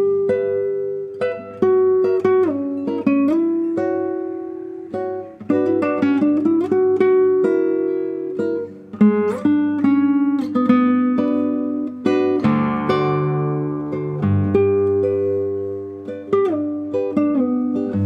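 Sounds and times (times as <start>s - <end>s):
classical guitar melody: 0.0s - 18.0s.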